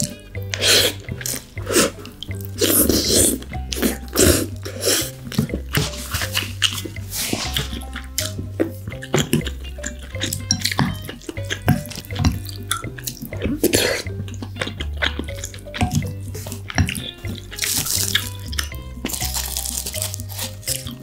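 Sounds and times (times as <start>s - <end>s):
slurping: 0.0s - 21.0s
wet chewing and smacking: 0.0s - 21.0s.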